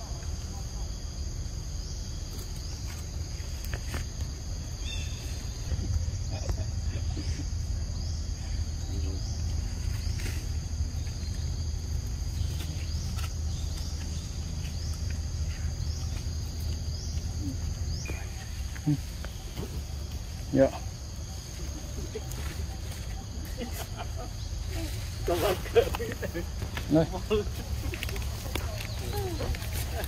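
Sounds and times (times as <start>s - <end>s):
constant low rumble: 0.0s - 30.0s
insects trilling: 0.0s - 30.0s.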